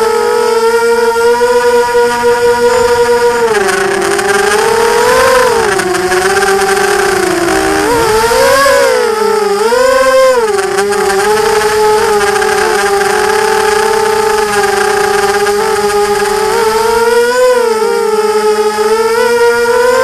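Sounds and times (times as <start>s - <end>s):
drone motors buzzing whine: 0.0s - 20.0s.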